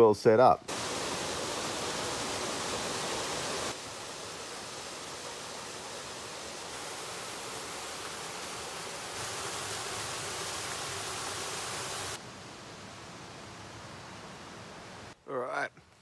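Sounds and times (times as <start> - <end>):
waterfall rushing into pool: 0.7 - 15.2.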